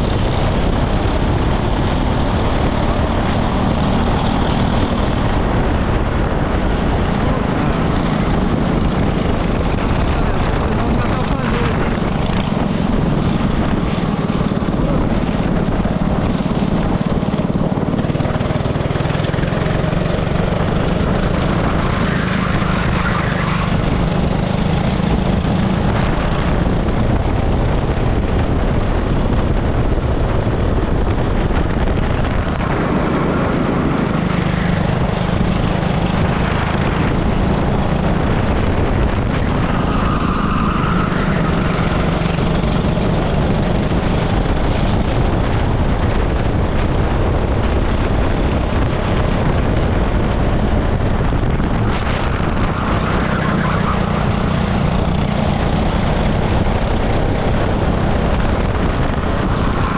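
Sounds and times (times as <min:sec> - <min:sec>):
kart engine running: 0:00.0 - 0:59.9.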